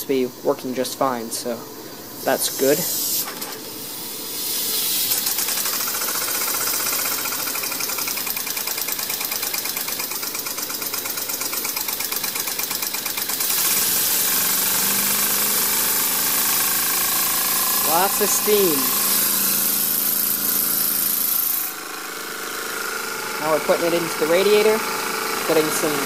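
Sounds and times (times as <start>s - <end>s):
steam hissing: 1.4s - 26.0s
steam engine chuffing: 4.4s - 26.0s.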